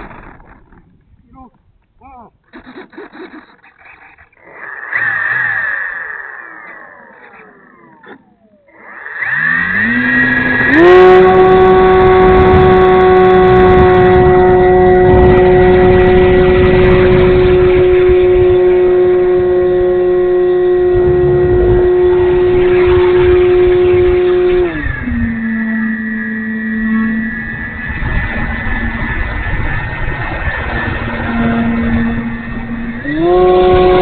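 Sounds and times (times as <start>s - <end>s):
electric motor and propeller whine: 0.0s - 1.5s, 2.4s - 34.0s.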